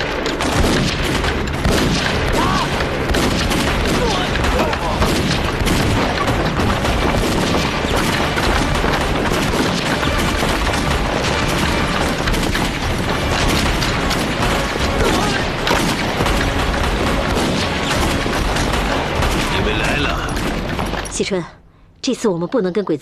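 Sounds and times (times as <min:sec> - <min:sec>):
rifle and machine-gun fire: 0:00.0 - 0:21.1
booming explosions: 0:00.4 - 0:21.1.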